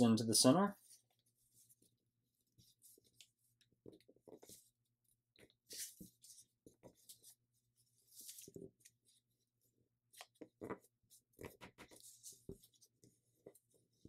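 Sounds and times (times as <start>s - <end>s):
paper being folded and creased: 0.8s - 14.0s.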